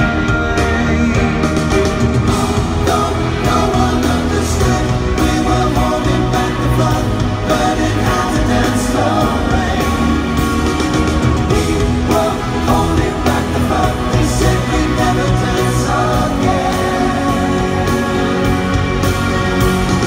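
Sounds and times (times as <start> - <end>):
full band backing: 0.0 - 20.0
male group singing pop ballad: 0.0 - 20.0.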